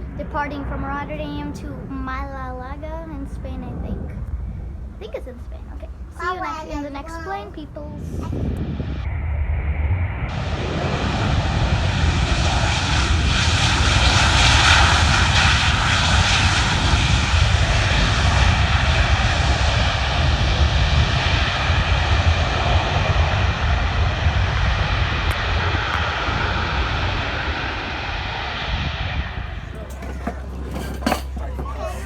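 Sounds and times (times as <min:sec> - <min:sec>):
jet engines passing close: 0:00.0 - 0:32.0.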